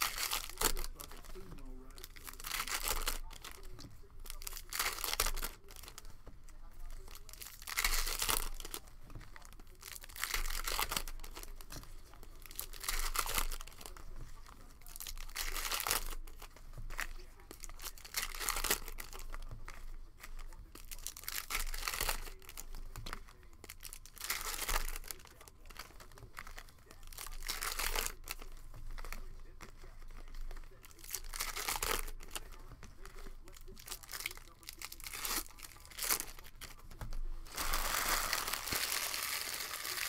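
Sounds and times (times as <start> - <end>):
foil wrappers crinkling and tearing: 0.0 - 40.0.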